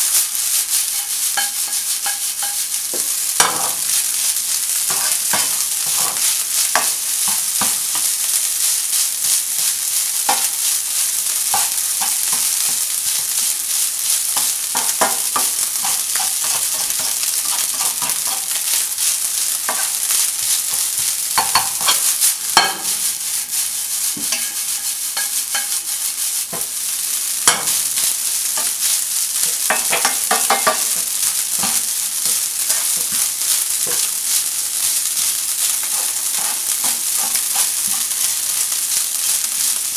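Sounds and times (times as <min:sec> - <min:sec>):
spatula scraping and tapping pan: 0:00.0 - 0:26.8, 0:27.4 - 0:39.8
rice sizzling in a frying pan: 0:00.0 - 0:39.9.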